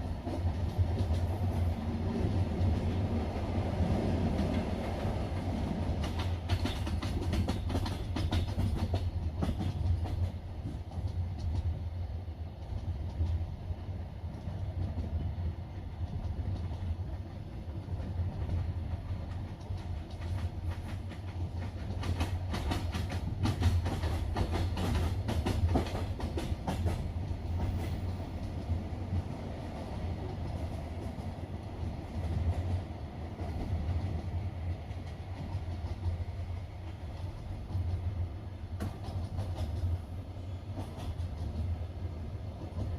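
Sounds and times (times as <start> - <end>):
train wheels clacking: 0.0 - 11.8, 16.0 - 41.9
train carriage rumbling: 0.0 - 42.9.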